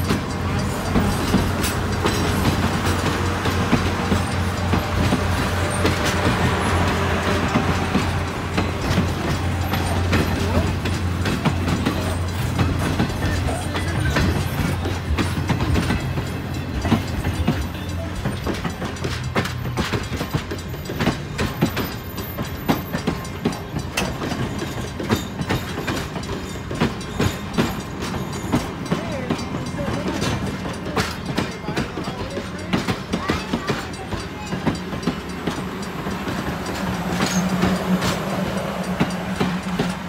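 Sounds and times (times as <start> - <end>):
low train rumble: 0.0 - 40.0
train wheels clacking on rails: 0.0 - 40.0.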